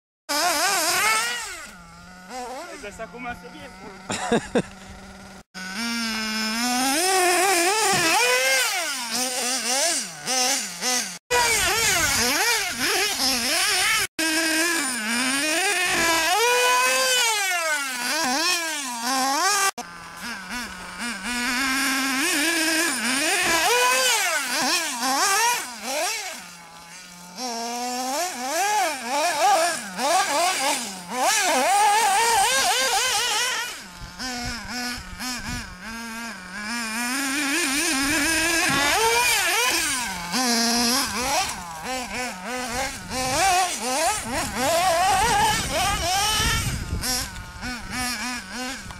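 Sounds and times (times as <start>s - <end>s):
small nitro engine revving: 0.3s - 48.9s.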